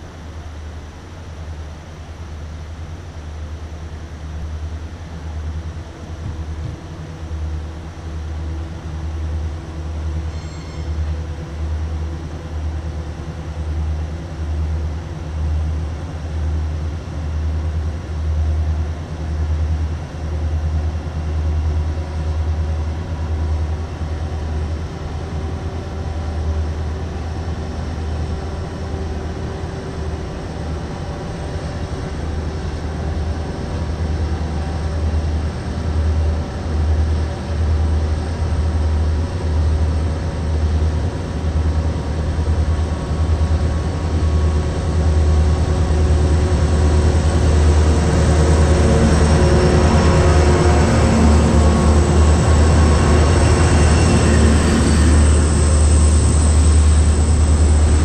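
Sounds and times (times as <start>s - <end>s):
diesel locomotive rumbling: 0.0s - 58.0s.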